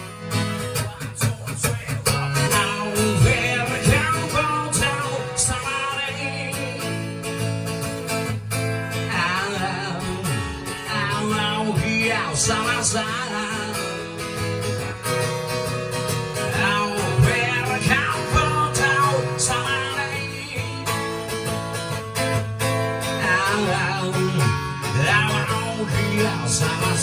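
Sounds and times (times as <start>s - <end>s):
live guitar-led band music: 0.0s - 27.0s.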